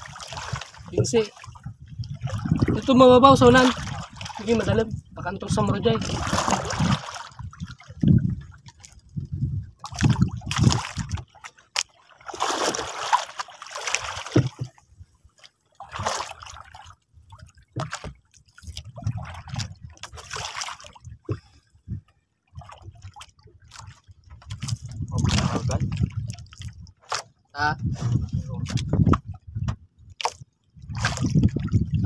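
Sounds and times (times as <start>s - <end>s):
water splashing against boat hull: 0.0s - 32.0s.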